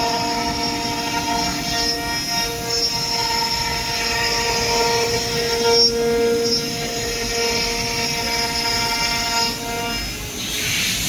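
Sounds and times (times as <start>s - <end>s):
router spindles whining: 0.0s - 11.0s
rushing noise of cutting wood: 0.0s - 11.0s.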